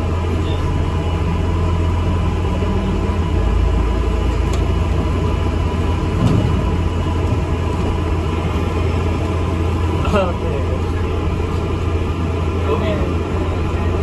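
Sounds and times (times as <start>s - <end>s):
bus engine rumble: 0.0s - 14.0s.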